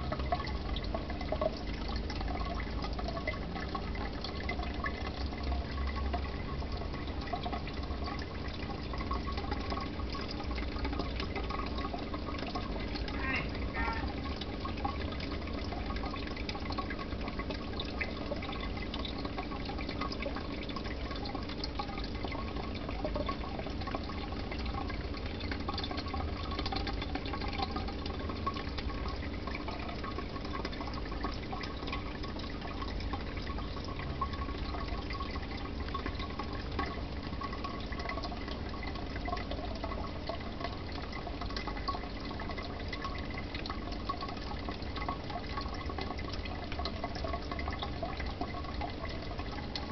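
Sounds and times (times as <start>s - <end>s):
air bubbles gurgling: 0.0s - 49.9s
low steady hum: 0.0s - 49.9s.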